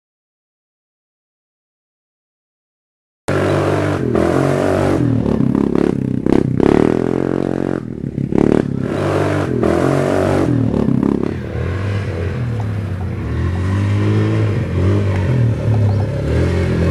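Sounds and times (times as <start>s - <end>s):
quad bike engine revving: 3.3s - 16.9s.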